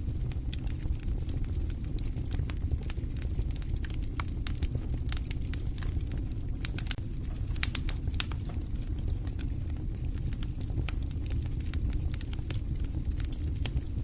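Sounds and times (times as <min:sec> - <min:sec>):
campfire crackling: 0:00.0 - 0:14.0
low rumble: 0:00.0 - 0:14.0.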